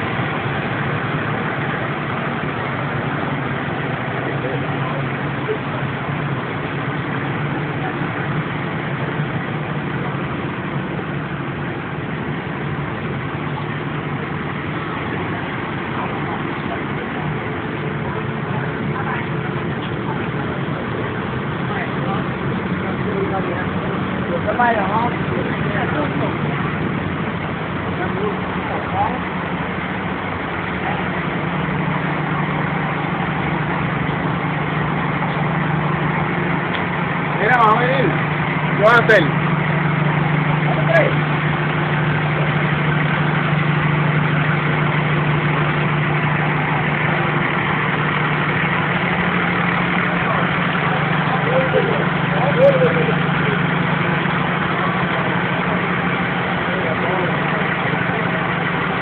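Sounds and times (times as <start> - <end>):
street noise: 0.0 - 59.0
truck engine idling: 0.0 - 59.0.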